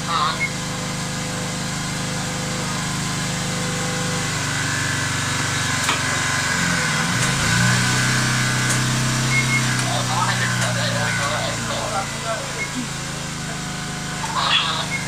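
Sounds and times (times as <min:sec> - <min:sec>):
small motor running: 0:00.0 - 0:15.0.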